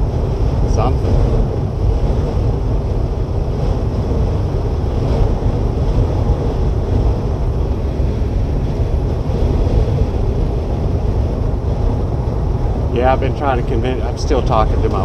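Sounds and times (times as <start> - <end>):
truck engine and road noise: 0.0 - 15.0
wind gusts buffeting: 0.0 - 15.0.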